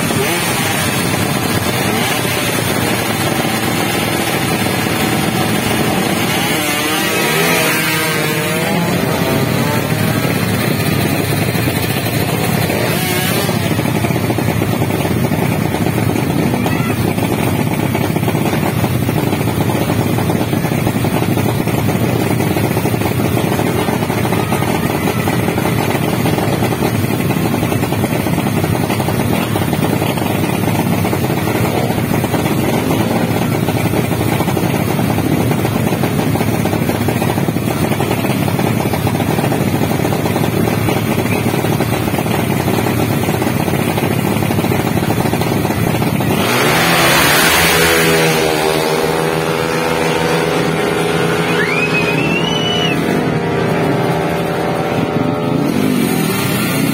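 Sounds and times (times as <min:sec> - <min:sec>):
engine revving: 0:00.0 - 0:56.9
motorcycle engines running: 0:00.0 - 0:56.9.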